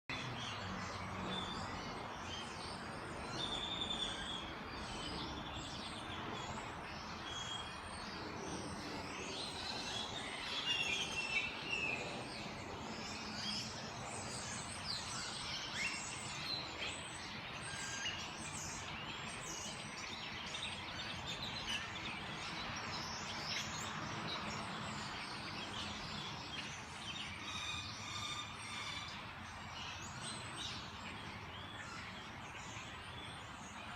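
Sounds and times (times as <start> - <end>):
birds chirping and calling: 0.1 - 33.9
steady background noise: 0.1 - 33.9.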